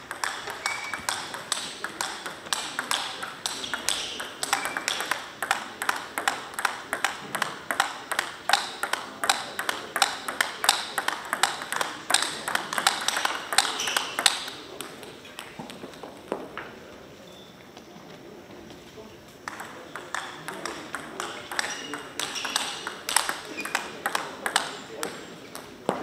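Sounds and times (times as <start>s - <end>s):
table tennis ball clicking: 0.1s - 15.8s, 19.4s - 25.7s.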